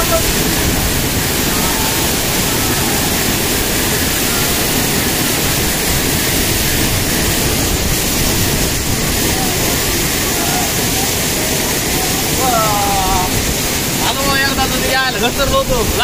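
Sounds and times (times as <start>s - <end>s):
river water rushing over weir: 0.0s - 16.0s.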